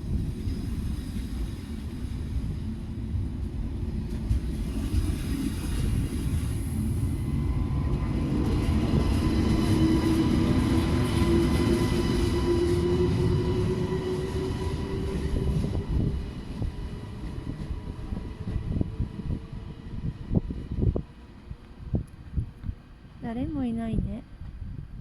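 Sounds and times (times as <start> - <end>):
high-speed train pulling out: 0.0 - 23.2.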